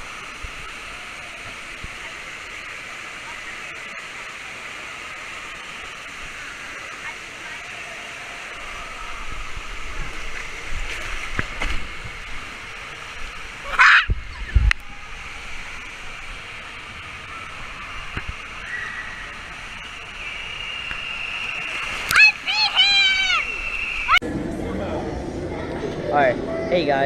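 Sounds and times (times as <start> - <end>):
rushing water: 0.0 - 24.2
water splashing: 0.0 - 24.2.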